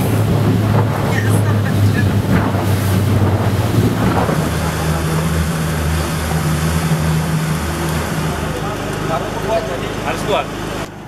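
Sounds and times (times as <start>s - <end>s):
speedboat engines droning: 0.0s - 11.0s
water rushing against hull: 0.0s - 11.0s.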